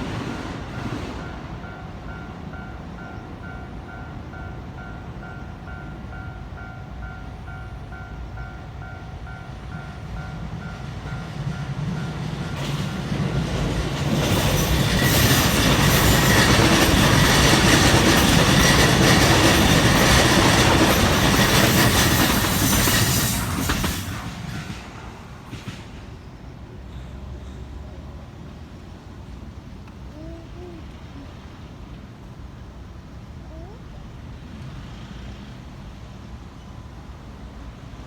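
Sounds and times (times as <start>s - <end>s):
train passing: 0.0s - 38.0s.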